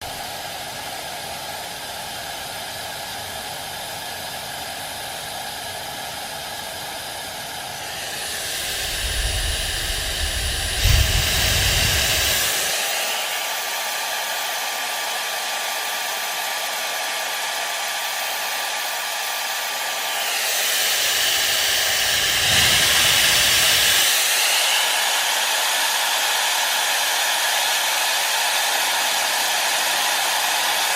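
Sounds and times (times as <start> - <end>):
hair dryer running: 0.0 - 30.9
hair dryer thin whine: 0.0 - 30.9.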